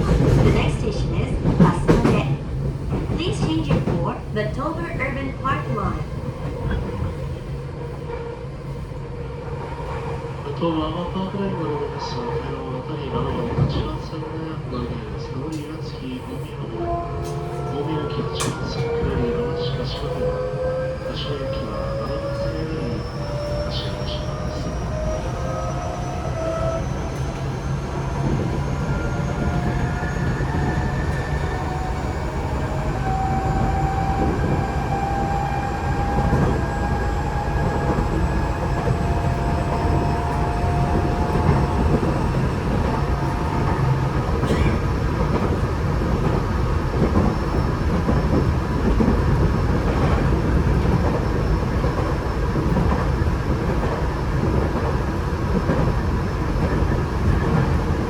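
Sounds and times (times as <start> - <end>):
train wheel rumble: 0.0 - 58.0.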